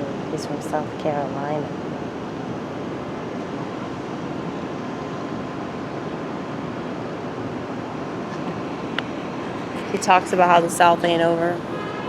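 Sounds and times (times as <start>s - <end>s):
faint high whine: 0.0s - 12.0s
rushing background noise: 0.0s - 12.0s.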